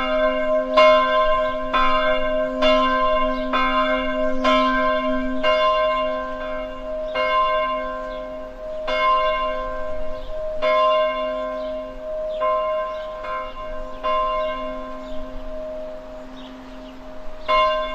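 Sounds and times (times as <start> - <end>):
large bell tolling: 0.0 - 17.9.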